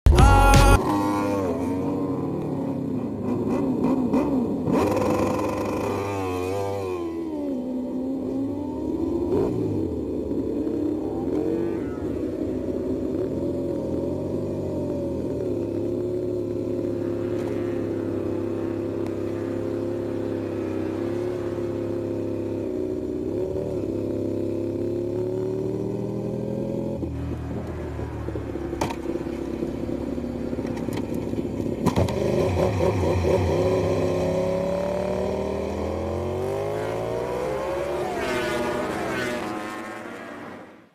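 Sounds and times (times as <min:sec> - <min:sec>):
racing motorcycle engine at high revs: 0:00.7 - 0:40.9.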